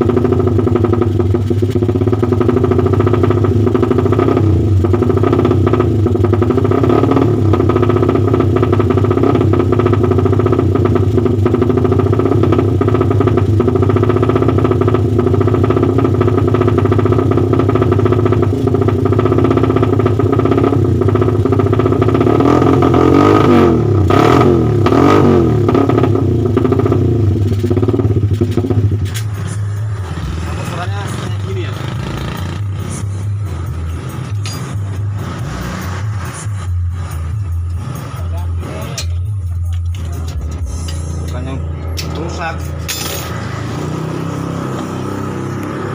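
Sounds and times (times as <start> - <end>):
motorcycle idling and revving: 0.0 - 45.9.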